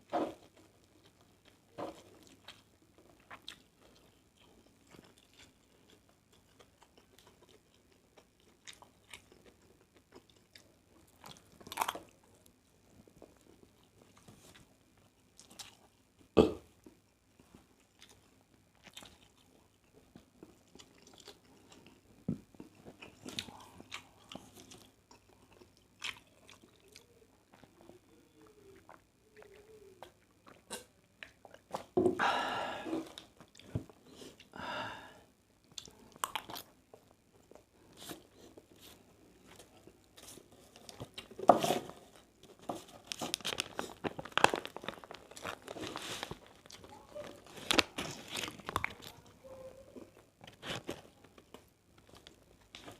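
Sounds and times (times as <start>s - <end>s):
crunchy chewing: 0.2s - 12.4s, 13.2s - 16.0s, 17.5s - 31.9s, 35.6s - 52.9s.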